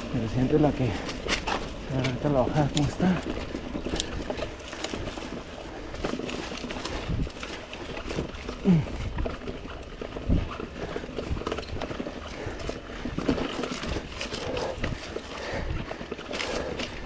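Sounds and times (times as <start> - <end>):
bike rattling over rocks: 0.0 - 17.0.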